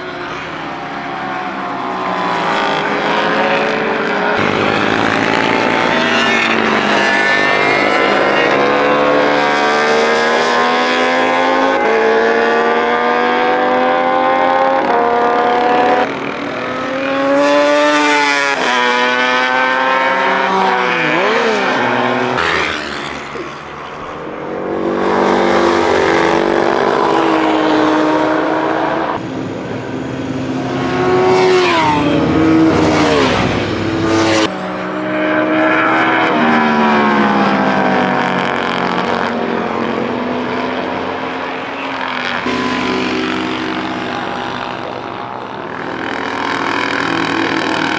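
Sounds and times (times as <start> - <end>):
racing motorcycle engines: 0.0 - 47.9.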